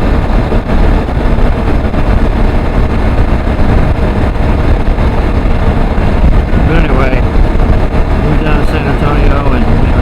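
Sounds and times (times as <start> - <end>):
motorcycle engine running: 0.0 - 10.0
wind noise on microphone: 0.0 - 10.0.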